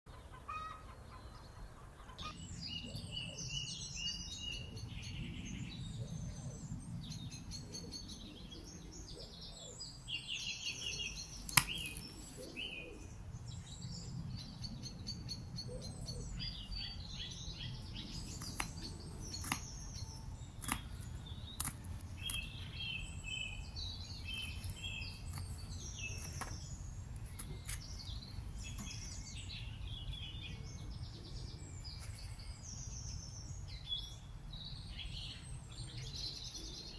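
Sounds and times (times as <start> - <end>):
songbirds chirping: 0.1 - 36.9.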